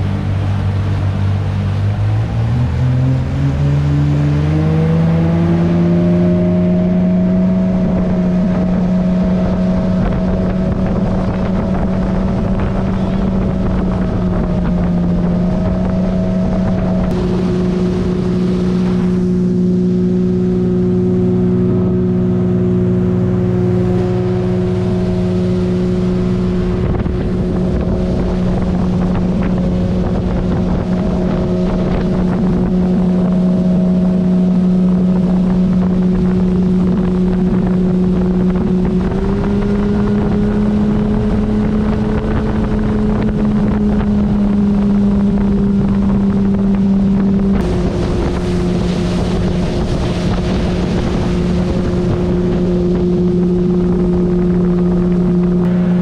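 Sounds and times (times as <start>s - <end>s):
churning water wake: 0.0s - 56.0s
motorboat engine: 0.0s - 56.0s.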